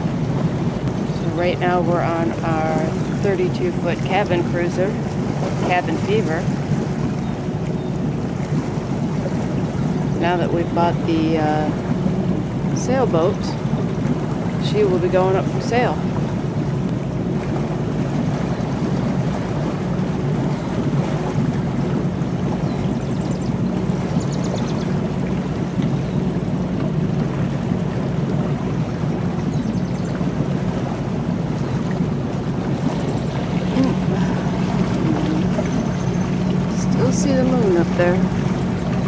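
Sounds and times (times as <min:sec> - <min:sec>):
boat engine drone: 0:00.0 - 0:39.0
water washing along hull: 0:00.0 - 0:39.0.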